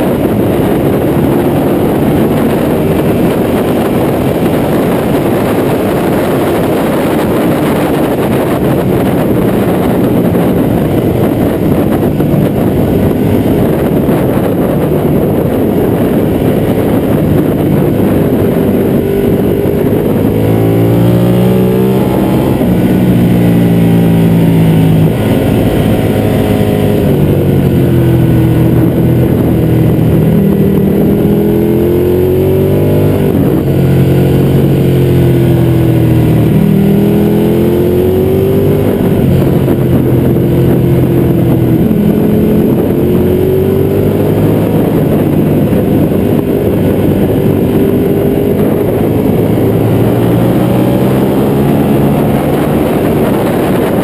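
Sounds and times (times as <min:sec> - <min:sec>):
motorcycle engine revving: 0:00.0 - 0:54.0
wind rush over fairing: 0:00.0 - 0:54.0.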